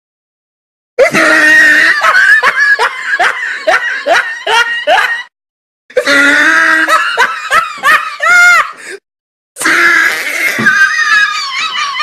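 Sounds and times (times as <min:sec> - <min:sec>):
loud laughter: 0:01.0 - 0:05.3, 0:05.9 - 0:08.9, 0:09.6 - 0:12.0.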